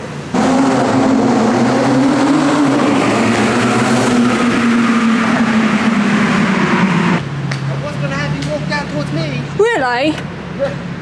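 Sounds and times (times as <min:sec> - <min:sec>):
car engine driving: 0:00.0 - 0:10.5.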